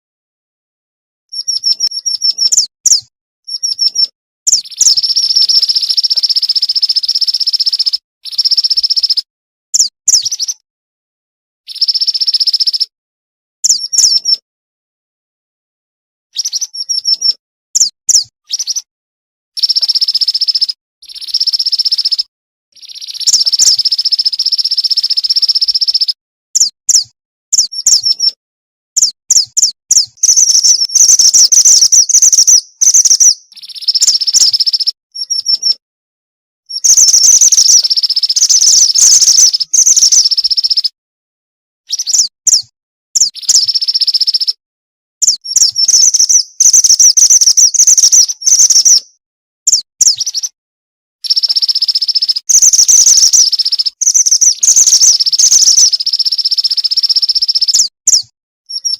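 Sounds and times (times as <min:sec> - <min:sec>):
bird chirping and trilling: 0:01.3 - 0:10.6, 0:11.7 - 0:12.9, 0:13.6 - 0:14.4, 0:16.4 - 0:18.9, 0:19.6 - 0:28.4, 0:29.0 - 0:35.8, 0:36.7 - 0:41.0, 0:41.9 - 0:44.6, 0:45.2 - 0:50.6, 0:51.2 - 0:58.9.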